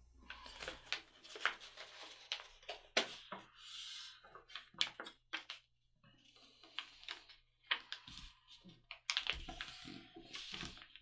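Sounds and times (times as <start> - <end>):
paper rustling and crackling: 0.2 - 5.7, 6.3 - 11.0.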